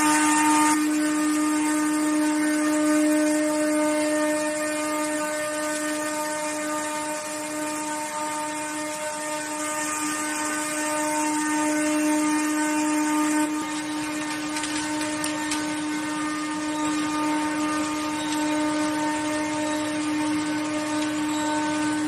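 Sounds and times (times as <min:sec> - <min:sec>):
continuous mechanical noise: 0:00.0 - 0:22.0
steady machine whine: 0:00.0 - 0:22.0.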